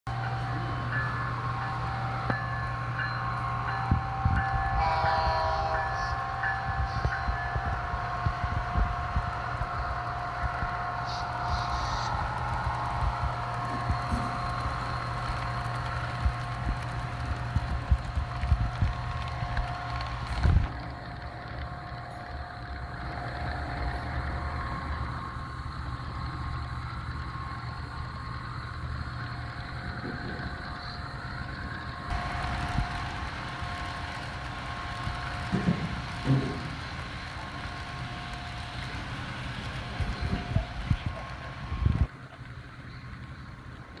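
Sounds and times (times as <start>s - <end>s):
model train electric hum: 0.1s - 44.0s
model train clicks: 6.5s - 44.0s.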